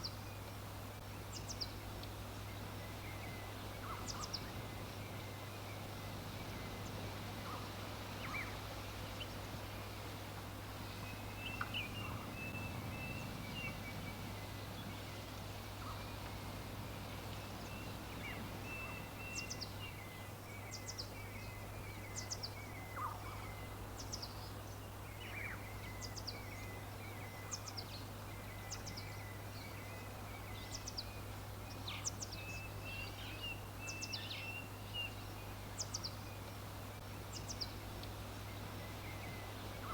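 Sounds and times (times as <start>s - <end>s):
background hiss: 0.0s - 39.9s
constant low hum: 0.0s - 39.9s
wild birds chirping: 0.0s - 39.9s.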